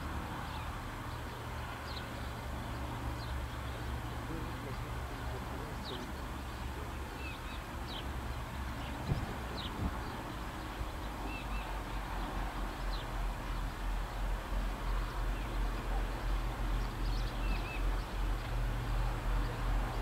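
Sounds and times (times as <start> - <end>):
birds chirping faintly: 0.0 - 20.0
diesel locomotive engine rumble: 0.0 - 20.0.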